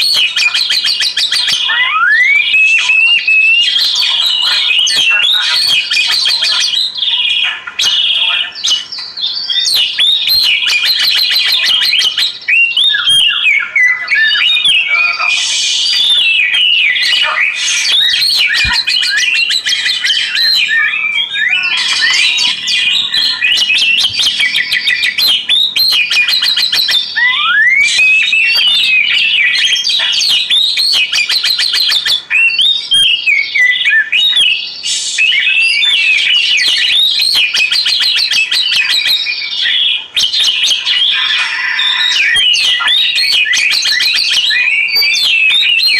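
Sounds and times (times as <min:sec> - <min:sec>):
songbird singing varied song: 0:00.0 - 0:45.9.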